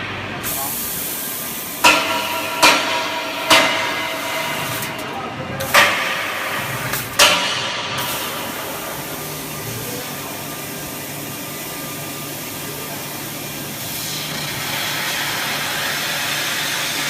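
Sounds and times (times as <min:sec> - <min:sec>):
laser cutter hissing: 0:00.4 - 0:17.0.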